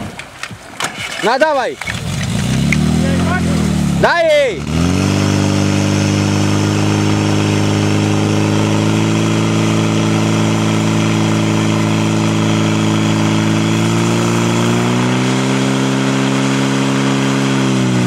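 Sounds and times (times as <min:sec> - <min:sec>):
fire pump engine at high revs: 0:01.4 - 0:18.0.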